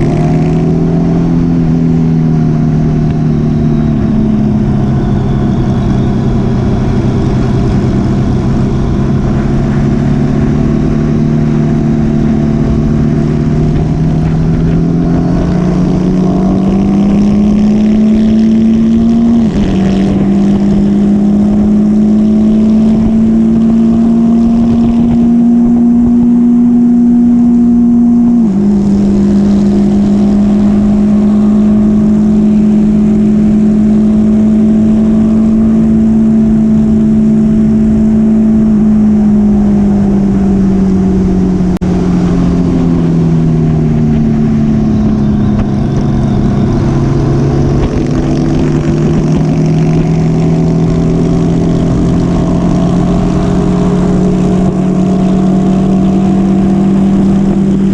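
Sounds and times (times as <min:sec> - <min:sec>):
motorcycle engine cruising: 0:00.0 - 0:57.9
second engine note: 0:00.0 - 0:57.9.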